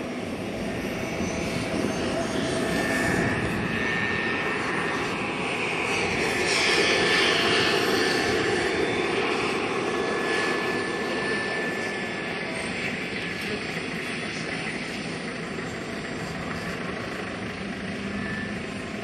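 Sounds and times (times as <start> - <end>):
model helicopter turbine whine: 0.0 - 19.0.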